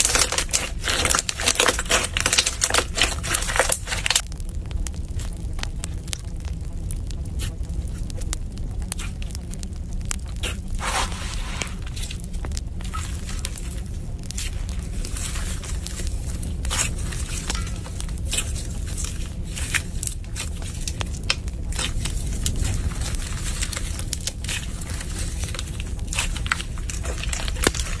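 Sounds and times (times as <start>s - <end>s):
slime crackling and popping: 0.0s - 28.0s
steady low hum: 0.0s - 28.0s.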